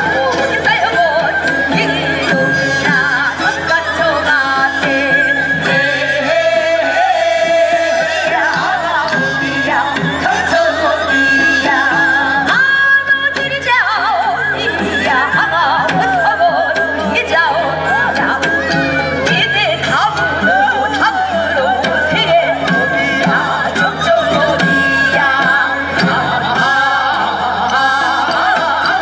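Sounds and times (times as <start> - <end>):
percussion strikes: 0.0 - 29.0.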